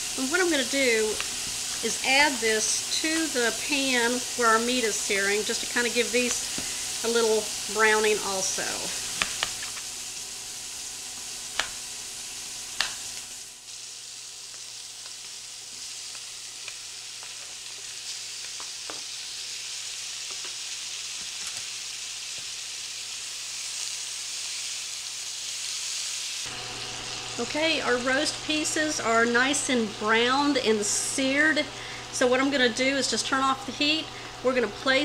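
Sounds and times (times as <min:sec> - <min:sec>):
beef sizzling in a skillet: 0:00.0 - 0:35.0.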